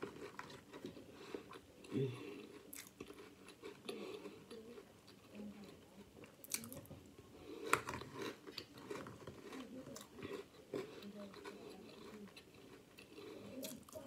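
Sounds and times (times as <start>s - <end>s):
person chewing cereal: 0.0s - 14.0s.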